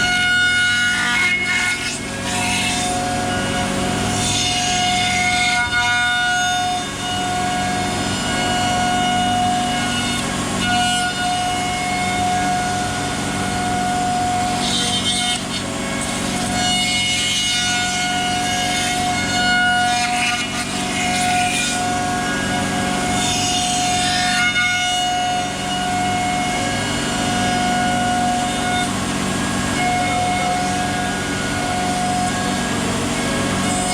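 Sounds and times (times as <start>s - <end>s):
router bit cutting wood: 0.0s - 33.9s
router spindle whine: 0.0s - 33.9s.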